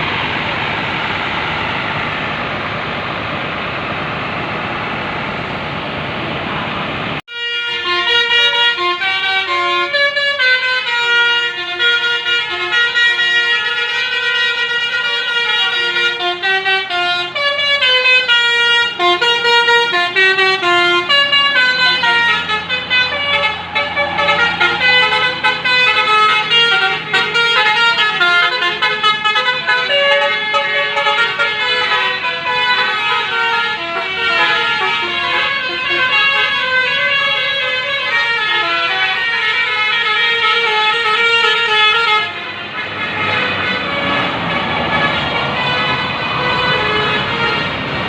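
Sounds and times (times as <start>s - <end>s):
multi-tone bus horn melody: 7.2s - 48.0s.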